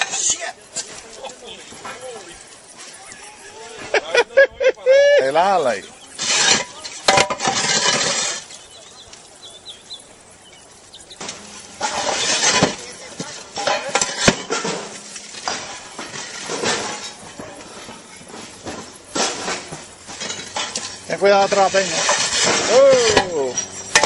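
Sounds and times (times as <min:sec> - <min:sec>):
roof tiles scraping and clinking: 0:00.0 - 0:04.2, 0:05.3 - 0:24.0.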